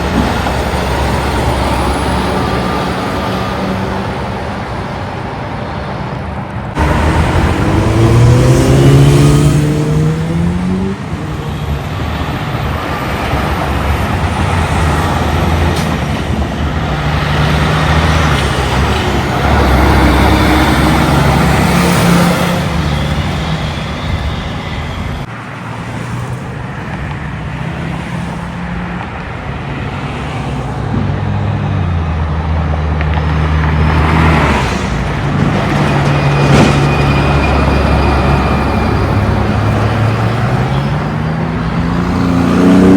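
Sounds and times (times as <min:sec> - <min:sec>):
truck diesel engines accelerating: 0:00.0 - 0:42.9
tyre and traffic noise: 0:00.0 - 0:42.9.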